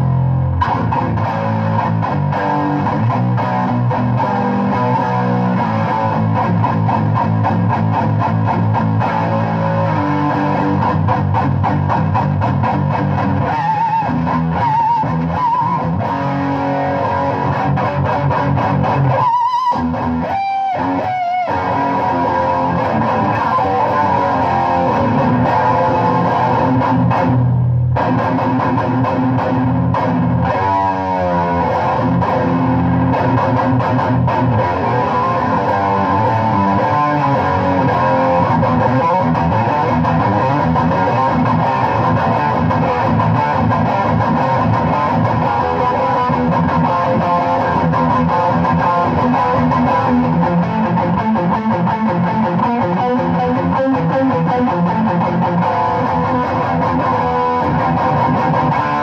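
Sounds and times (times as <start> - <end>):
distorted electric guitar riffs: 0.0 - 59.0.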